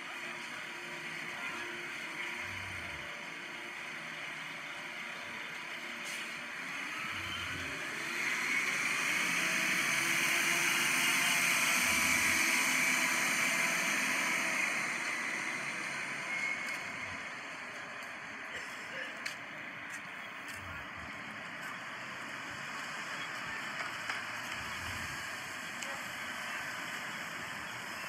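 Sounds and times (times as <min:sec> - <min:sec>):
bus driving past: 0:00.0 - 0:28.0
faint rising whine: 0:00.0 - 0:28.0
street traffic: 0:00.0 - 0:28.0.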